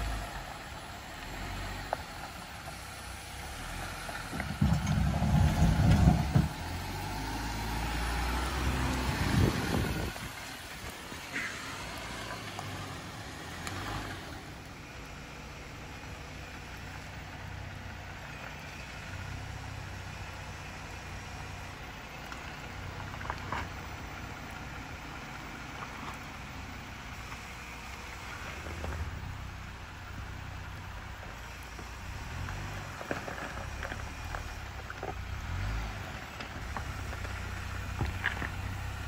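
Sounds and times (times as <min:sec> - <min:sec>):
pickup truck crawling over gravel: 0:00.0 - 0:39.0.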